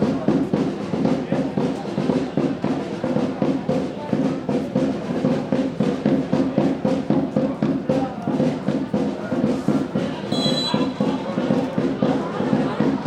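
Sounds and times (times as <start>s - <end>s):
drums playing fast beat: 0.0s - 13.0s.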